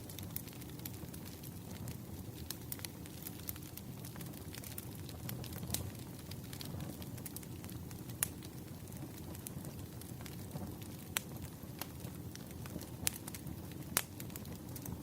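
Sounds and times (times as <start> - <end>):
burning wood popping and crackling: 0.0 - 15.0
low rush of flames: 0.0 - 15.0.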